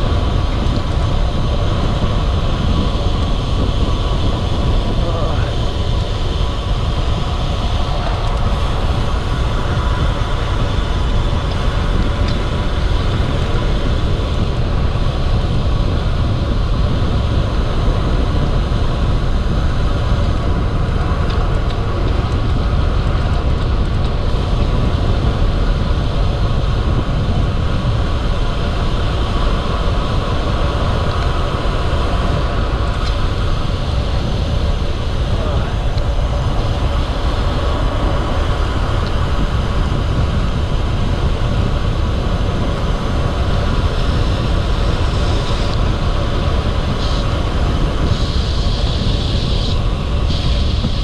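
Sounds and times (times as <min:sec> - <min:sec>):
low rumble: 0:00.0 - 0:51.0
wind noise on microphone: 0:00.0 - 0:51.0.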